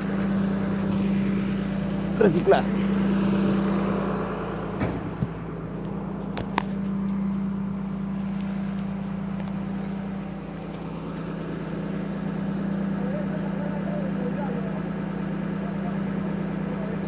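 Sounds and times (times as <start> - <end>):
truck engine humming: 0.0 - 17.0.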